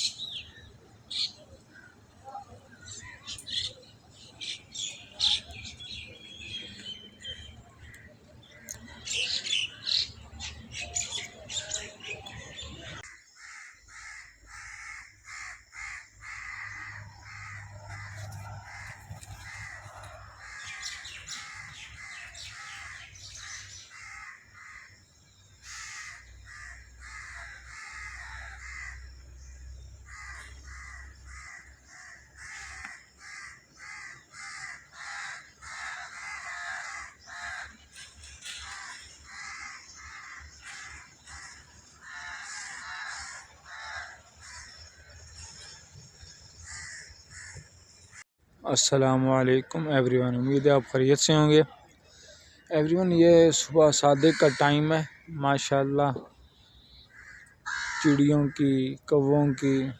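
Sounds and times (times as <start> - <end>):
small birds chirping: 0.0 - 59.9
crows cawing: 2.8 - 25.0, 25.6 - 29.5, 30.1 - 45.8, 46.6 - 48.2, 53.5 - 55.7, 56.4 - 58.8.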